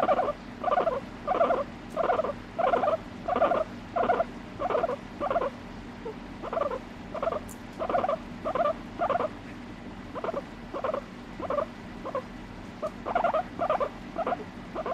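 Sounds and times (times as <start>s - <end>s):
guinea pig short calls: 0.0s - 9.4s, 10.1s - 14.9s.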